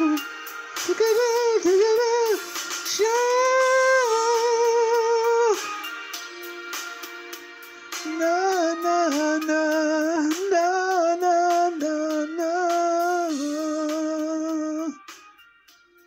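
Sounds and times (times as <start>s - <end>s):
person singing wordless melody: 0.0s - 15.8s
karaoke backing track: 0.0s - 16.0s.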